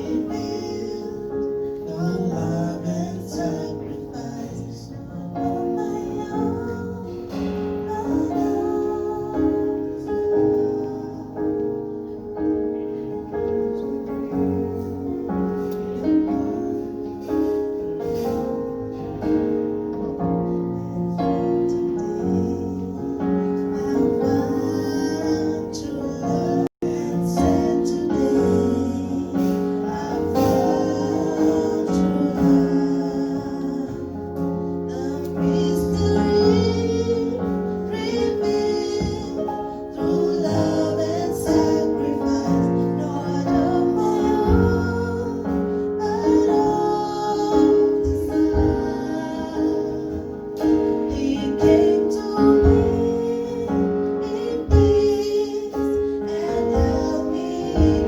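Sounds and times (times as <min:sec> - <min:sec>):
women singing gospel: 0:00.0 - 0:12.2, 0:21.7 - 0:58.0
keyboard accompaniment: 0:00.0 - 0:58.0.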